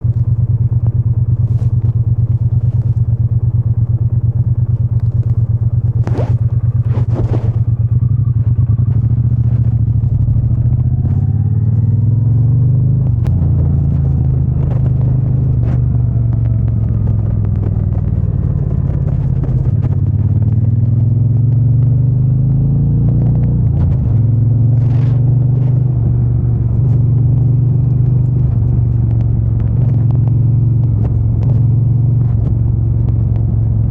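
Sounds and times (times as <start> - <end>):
motorcycle engine and exhaust: 0.0 - 33.9.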